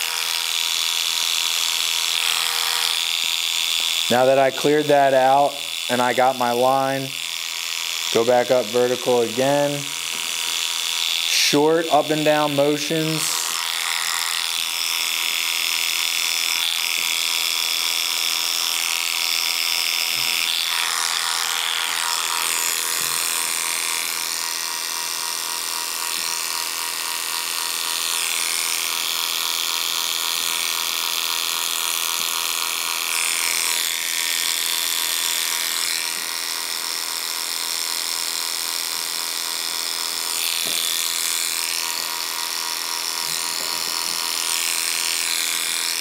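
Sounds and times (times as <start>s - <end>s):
hair clipper buzzing: 0.0s - 46.0s.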